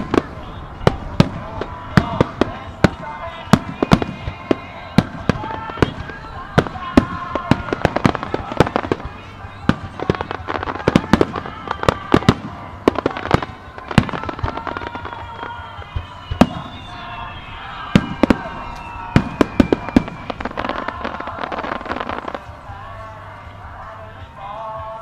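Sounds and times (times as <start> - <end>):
dense firework crackling: 0.0 - 23.0.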